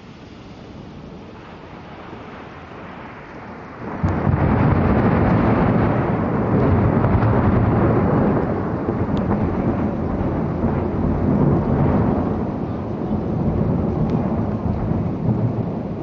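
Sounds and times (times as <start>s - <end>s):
rain: 0.0s - 16.0s
rolling thunder: 0.6s - 16.0s.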